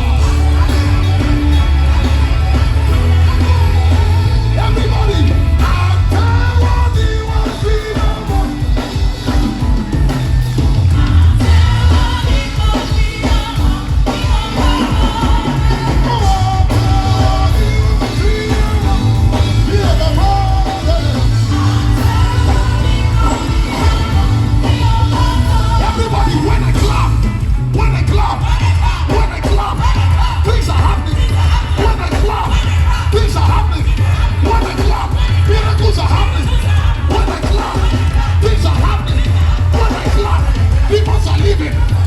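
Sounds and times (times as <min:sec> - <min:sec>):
gospel band playing: 0:00.0 - 0:42.0
lead voice singing: 0:00.0 - 0:42.0.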